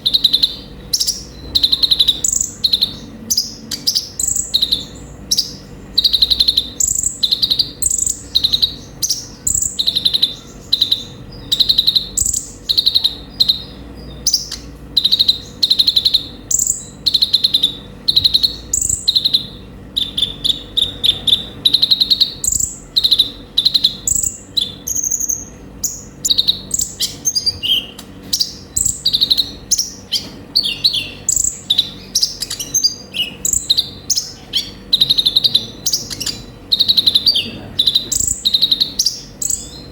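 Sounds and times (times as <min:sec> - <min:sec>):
sunbird chirping: 0:00.0 - 0:39.9.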